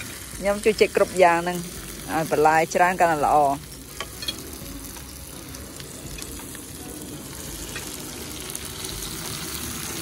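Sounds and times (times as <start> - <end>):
food sizzling on a grill pan: 0.0 - 10.0.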